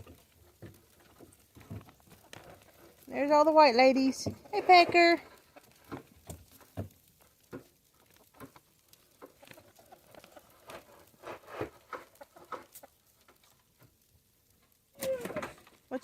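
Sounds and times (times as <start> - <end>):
chickens moving with soft taps: 0.0 - 16.0.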